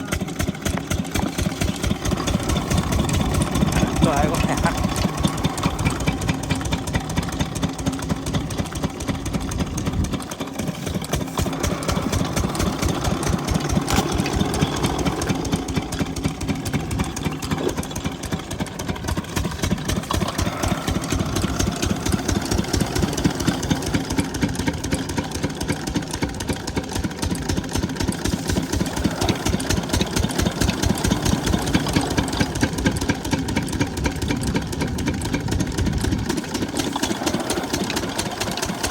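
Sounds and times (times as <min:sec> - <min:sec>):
diesel water pump engine chugging: 0:00.0 - 0:38.9.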